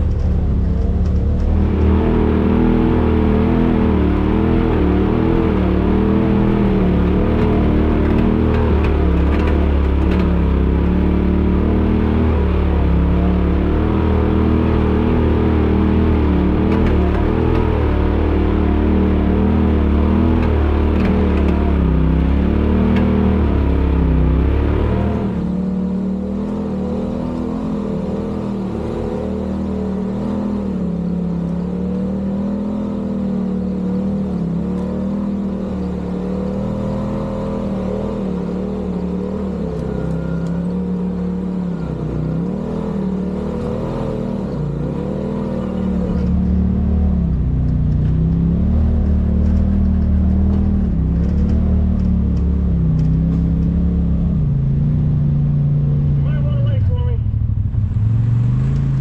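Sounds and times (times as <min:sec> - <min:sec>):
deep rumble: 0:00.0 - 0:29.0, 0:38.8 - 0:59.0
utility vehicle engine running: 0:00.0 - 0:59.0.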